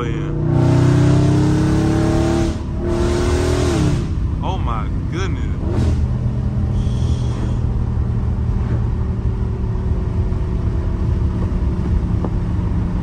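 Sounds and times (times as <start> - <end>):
car engine droning at cruise: 0.0 - 13.0
road noise: 0.0 - 13.0.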